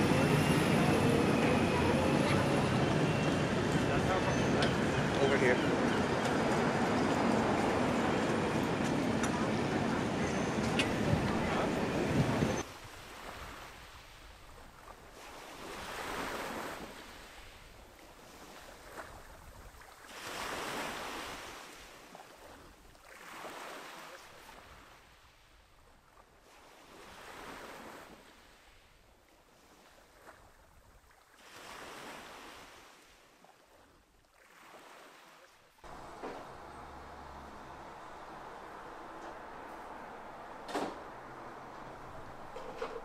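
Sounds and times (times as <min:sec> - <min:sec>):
sea waves washing ashore: 0:00.0 - 0:43.0.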